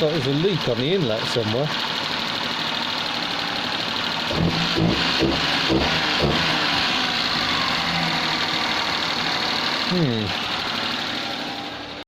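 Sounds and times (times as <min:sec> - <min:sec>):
small car engine running unevenly: 0:00.0 - 0:12.0.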